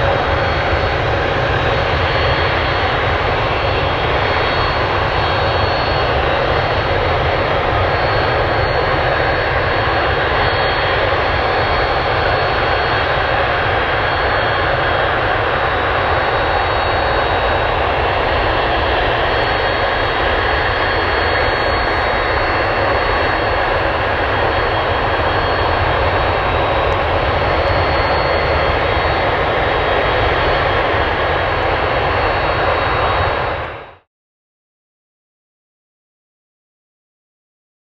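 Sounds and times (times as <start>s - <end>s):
jet engines running: 0.0s - 34.1s.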